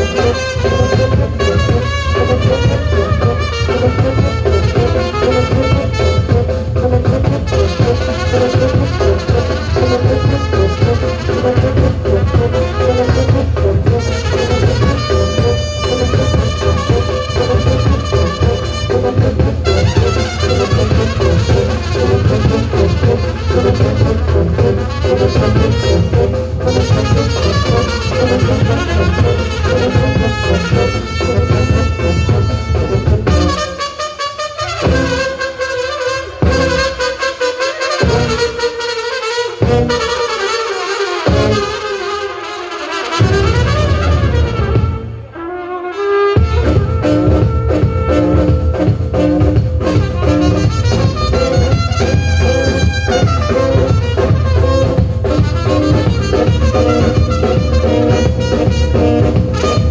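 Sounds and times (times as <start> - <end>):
bass drum: 0.0 - 33.8, 34.8 - 35.4, 36.4 - 37.0, 38.0 - 38.6, 39.6 - 40.1, 41.3 - 41.8, 43.2 - 45.2, 46.4 - 59.9
trumpets and horns playing melody: 0.0 - 59.9.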